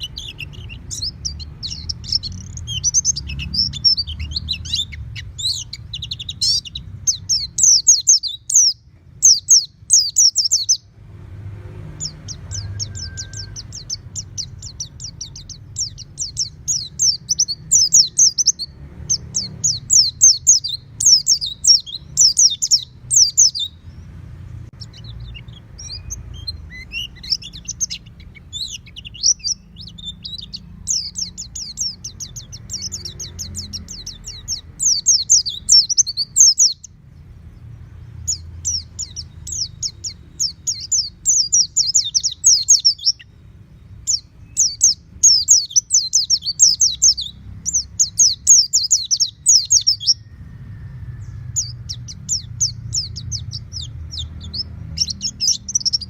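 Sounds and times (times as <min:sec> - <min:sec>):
bird rapid high chirping: 0:00.0 - 0:11.0, 0:11.8 - 0:56.0.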